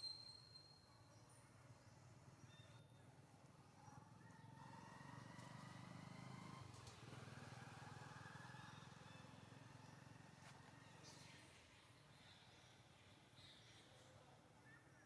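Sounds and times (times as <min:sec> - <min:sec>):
faint distant engine drone: 0:00.0 - 0:15.0.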